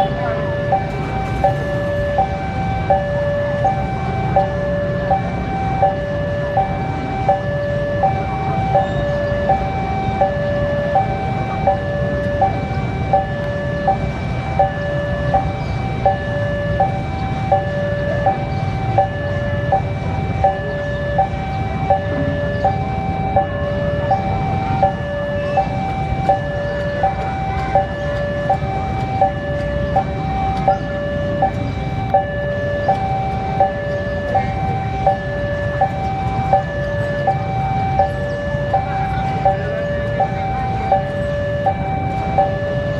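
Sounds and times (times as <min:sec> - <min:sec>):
diesel locomotive rumble: 0:00.0 - 0:42.9
level crossing alarm: 0:00.0 - 0:42.9.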